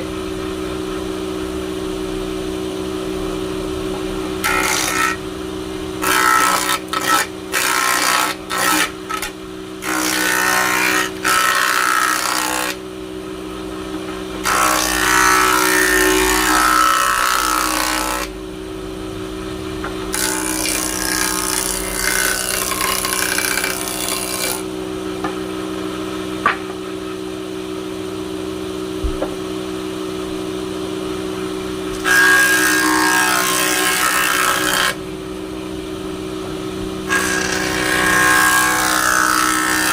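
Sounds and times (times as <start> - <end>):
wood cutting noise: 3.8 - 39.9.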